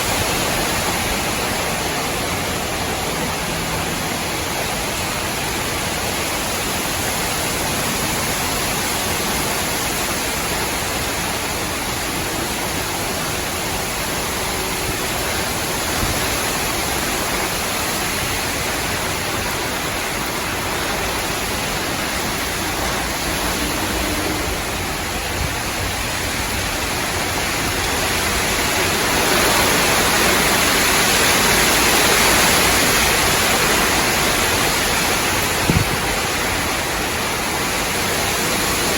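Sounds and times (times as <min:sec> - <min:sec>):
gusty wind through trees: 0:00.0 - 0:38.9.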